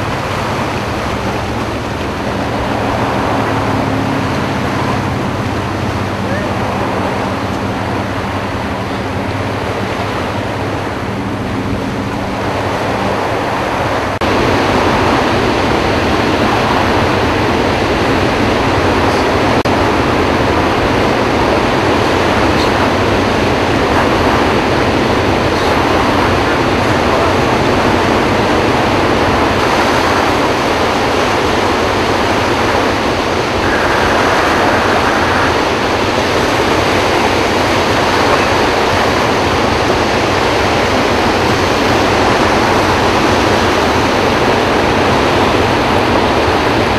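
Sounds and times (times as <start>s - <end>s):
floodwater rushing: 0.0s - 46.9s.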